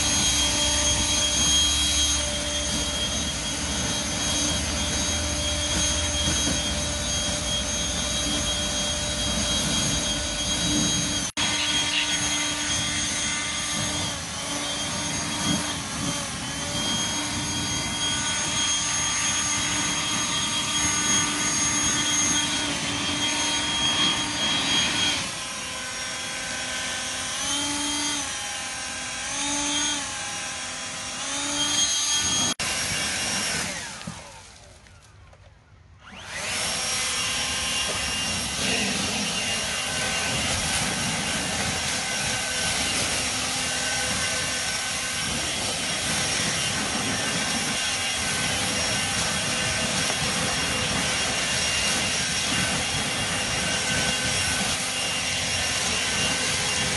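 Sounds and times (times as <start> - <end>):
leaf blower fan whine: 0.0 - 56.9.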